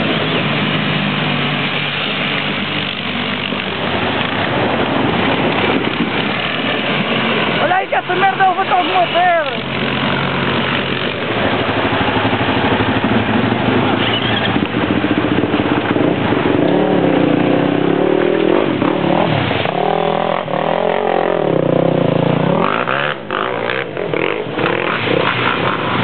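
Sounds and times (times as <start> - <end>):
quad bike engines revving: 0.0 - 26.0
water splashing: 0.0 - 26.0.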